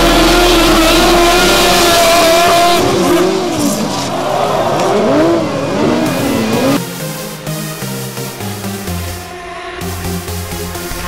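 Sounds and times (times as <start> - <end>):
racing engines revving: 0.0 - 8.9.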